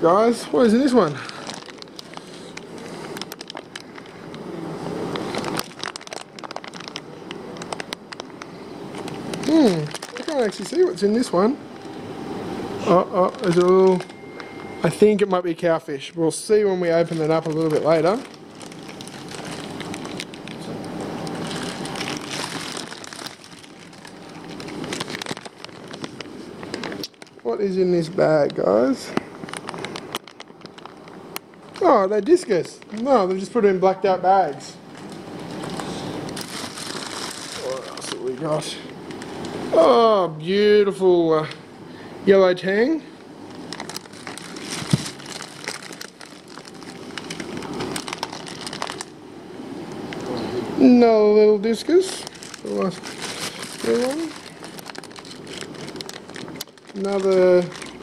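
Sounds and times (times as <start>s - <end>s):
steady low hum: 0.0s - 58.0s
plastic bags crinkling: 0.6s - 4.5s, 5.1s - 11.5s, 13.1s - 33.5s, 35.0s - 39.3s, 43.5s - 49.2s, 51.9s - 58.0s.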